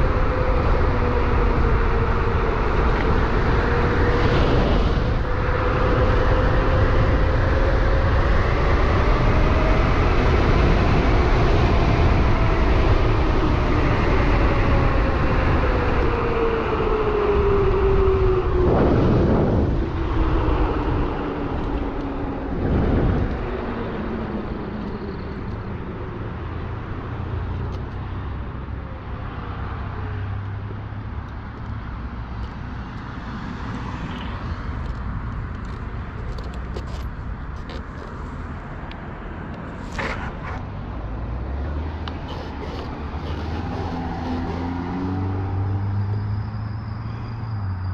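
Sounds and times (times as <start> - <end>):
rumble and wind noise: 0.0 - 47.9.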